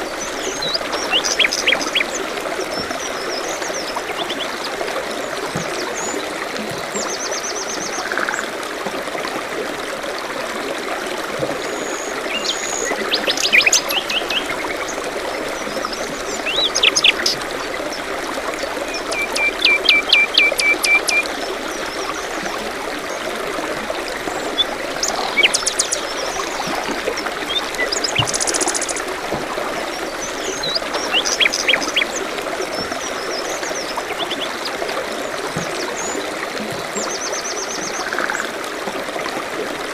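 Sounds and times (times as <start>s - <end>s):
songbirds calling: 0.0s - 8.4s, 11.7s - 38.5s
trickling stream: 0.0s - 39.9s.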